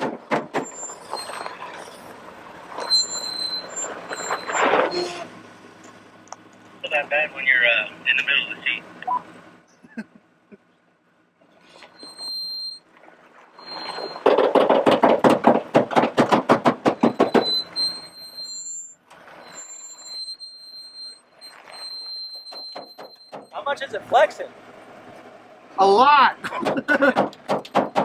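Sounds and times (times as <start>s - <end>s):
brakes squealing: 0.0s - 28.0s.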